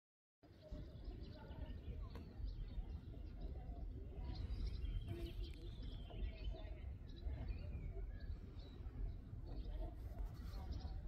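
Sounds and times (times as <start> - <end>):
faint bird chirps: 0.4 - 11.0.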